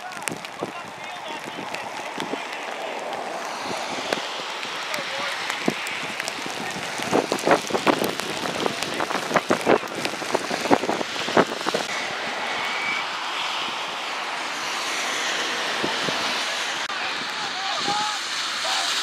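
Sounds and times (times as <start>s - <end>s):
rain: 0.0s - 19.0s
wind hissing on microphone: 0.0s - 19.0s.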